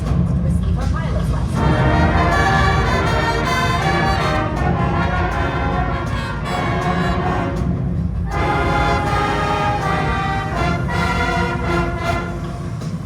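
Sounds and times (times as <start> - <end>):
brass ensemble sustained chords: 1.6 - 13.0.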